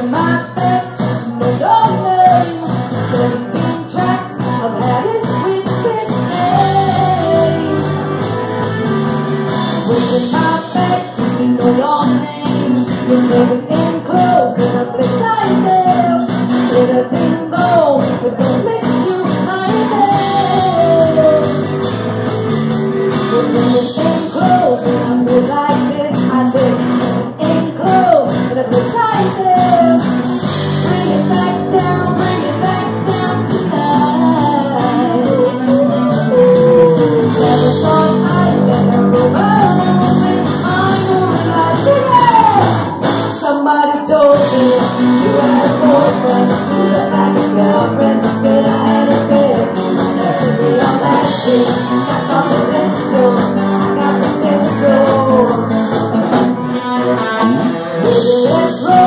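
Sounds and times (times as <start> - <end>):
woman singing: 0.0 - 8.2, 9.8 - 21.8, 23.2 - 56.5, 58.0 - 59.0
live rock band playing: 0.0 - 59.0.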